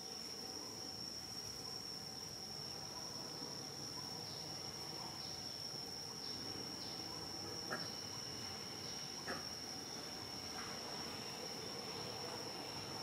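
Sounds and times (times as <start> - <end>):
high-pitched insect drone: 0.0 - 13.0
low outdoor background hum: 0.0 - 13.0.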